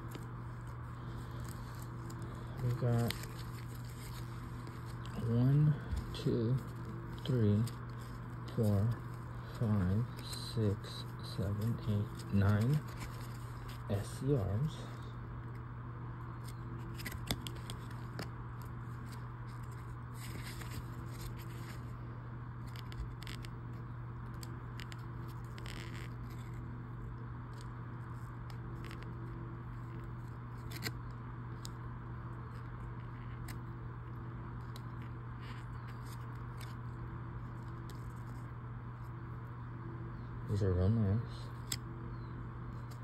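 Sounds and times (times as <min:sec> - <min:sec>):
cards scraping and clicking: 0:00.0 - 0:14.6, 0:16.3 - 0:22.0, 0:22.6 - 0:26.8, 0:27.5 - 0:31.8, 0:32.4 - 0:39.1, 0:41.5 - 0:43.0
steady low hum: 0:00.0 - 0:43.0.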